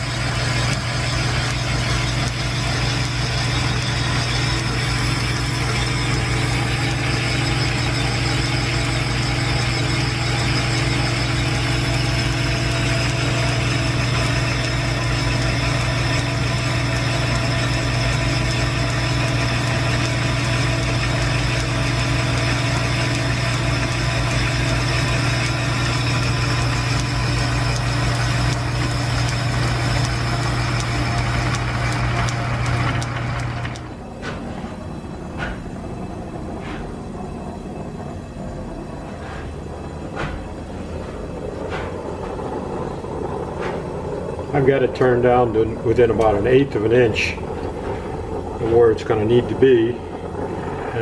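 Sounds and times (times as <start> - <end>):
lathe grinding noise: 0.0 - 51.0
low machinery hum: 0.0 - 51.0.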